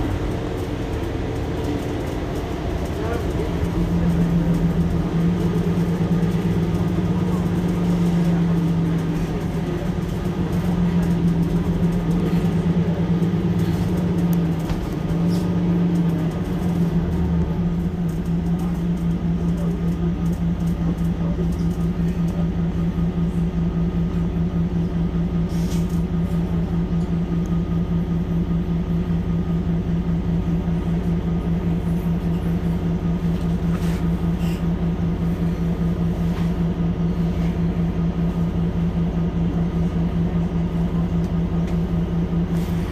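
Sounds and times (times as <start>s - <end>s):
bus diesel engine idling: 0.0s - 42.9s.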